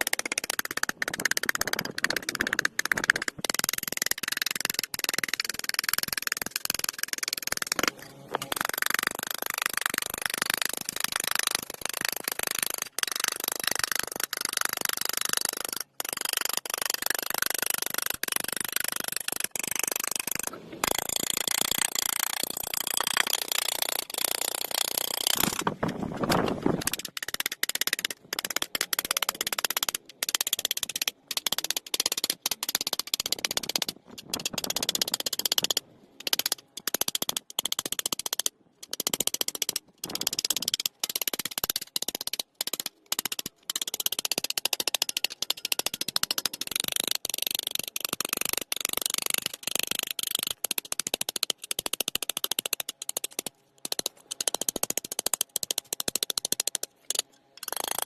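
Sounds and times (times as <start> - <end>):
hand tools scraping and clicking: 0.0 - 13.4, 20.1 - 58.0.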